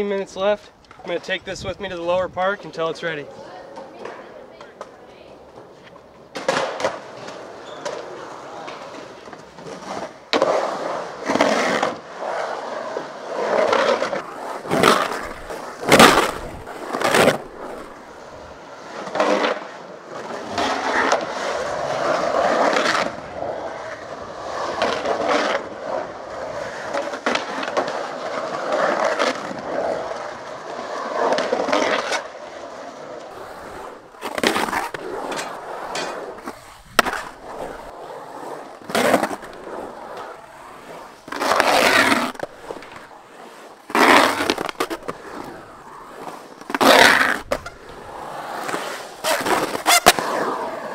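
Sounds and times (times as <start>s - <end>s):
skateboard wheels rolling on concrete: 0.0s - 50.9s
skateboard trucks grinding coping: 2.8s - 50.9s
skateboard clacking on concrete: 3.4s - 12.1s, 12.9s - 43.3s, 43.9s - 50.9s.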